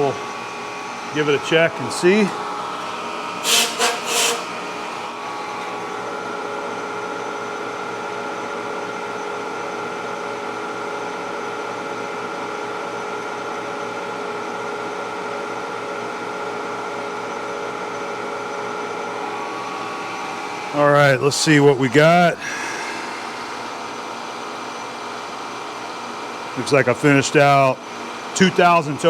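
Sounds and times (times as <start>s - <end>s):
milling machine humming and whining: 0.0s - 29.0s.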